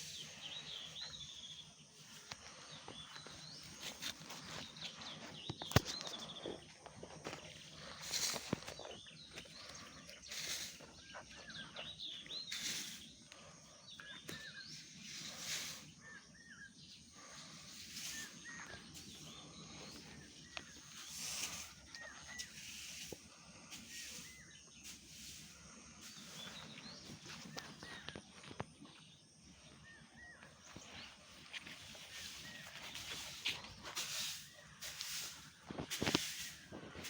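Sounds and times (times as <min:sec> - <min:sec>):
rustling or scuffing: 0:00.0 - 0:13.2, 0:17.6 - 0:29.2, 0:30.5 - 0:37.0
small birds chirping: 0:00.0 - 0:37.0.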